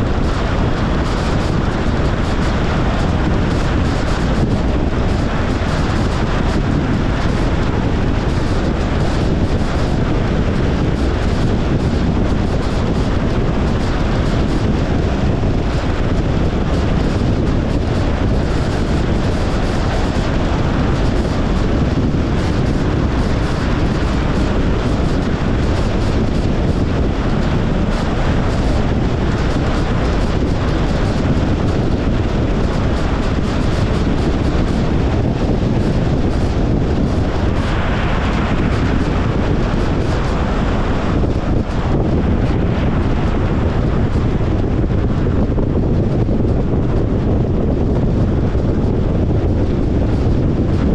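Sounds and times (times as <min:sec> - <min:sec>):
tyre and wind noise: 0:00.0 - 0:50.9.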